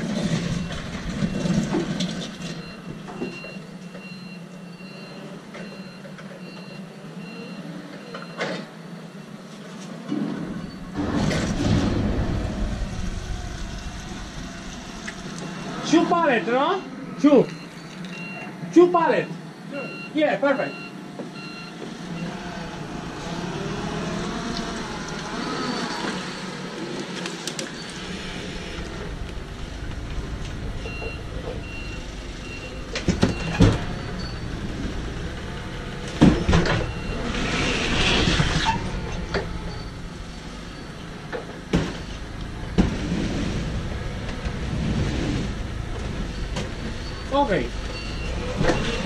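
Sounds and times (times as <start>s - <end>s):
forklift engine rumble: 0.0s - 18.7s, 20.7s - 49.0s.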